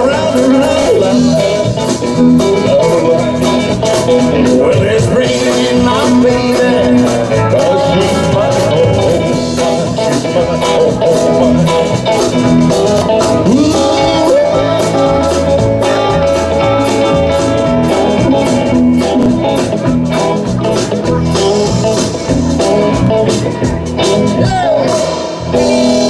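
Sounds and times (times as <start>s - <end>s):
live band with electric guitars: 0.0s - 26.0s.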